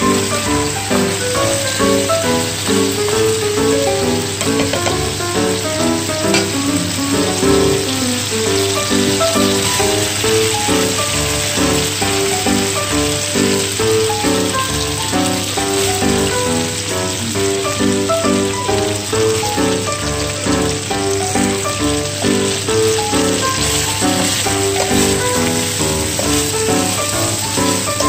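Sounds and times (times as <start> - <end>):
instrumental background music: 0.0 - 28.0
onions sizzling in a pan: 0.0 - 28.0.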